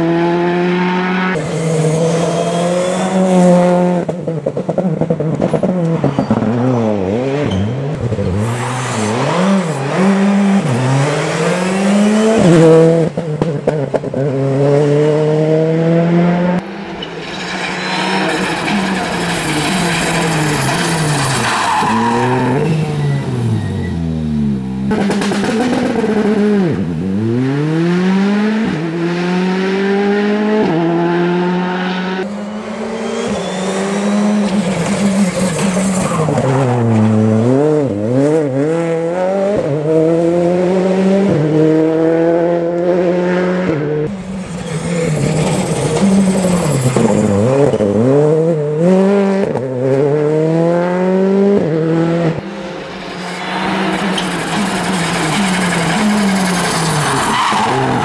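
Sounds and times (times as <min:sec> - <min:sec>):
rally car engine revving: 0:00.0 - 0:17.0, 0:17.9 - 0:58.0.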